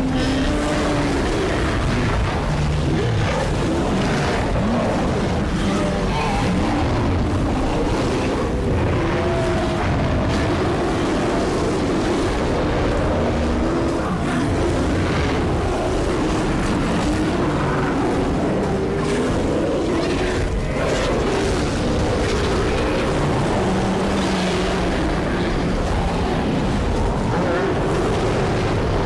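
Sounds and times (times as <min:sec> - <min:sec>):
gliding creature calls: 0:00.0 - 0:29.0.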